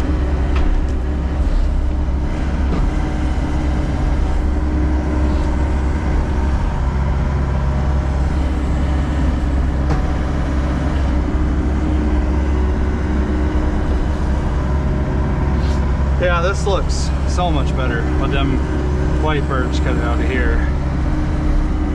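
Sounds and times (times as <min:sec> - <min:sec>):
excavator diesel engine rumbling: 0:00.0 - 0:21.9.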